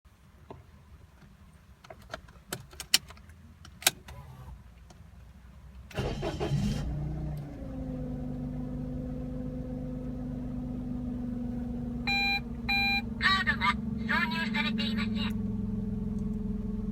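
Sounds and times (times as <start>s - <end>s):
car engine starting and idling: 2.5s - 4.9s, 5.7s - 16.9s.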